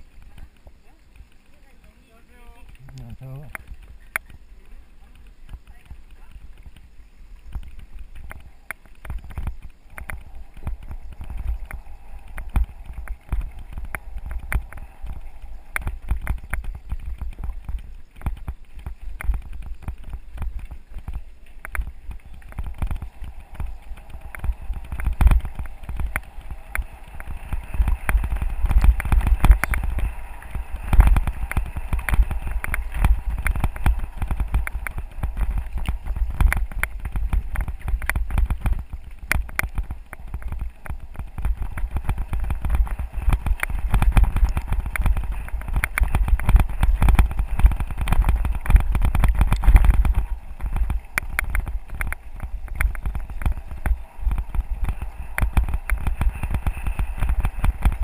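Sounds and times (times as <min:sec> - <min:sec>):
bike tyres crunching on gravel: 0:00.0 - 0:58.0
wind rumble on microphone: 0:00.0 - 0:58.0.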